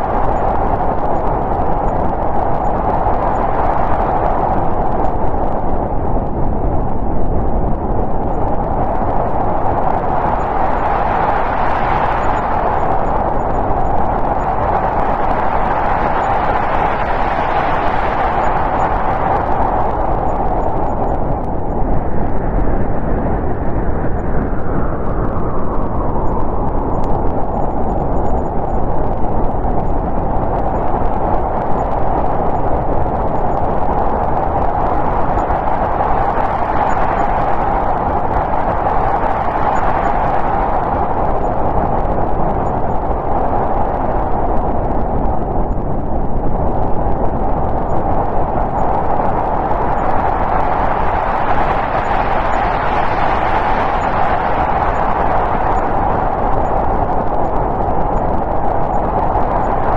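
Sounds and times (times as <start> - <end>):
storm wind gusting: 0.0 - 59.9.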